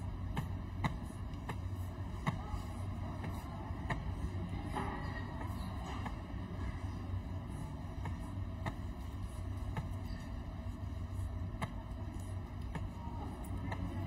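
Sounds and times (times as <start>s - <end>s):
low rumble of hall noise: 0.0s - 14.0s.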